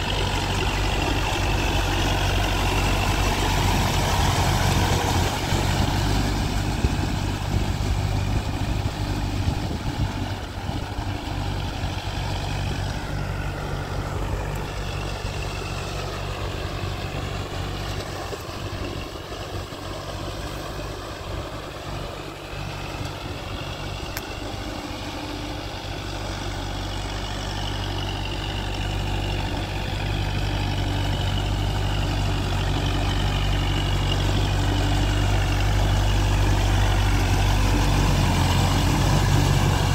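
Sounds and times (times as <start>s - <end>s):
tractor diesel engine: 0.0s - 39.9s
wheels churning through water: 0.0s - 39.9s.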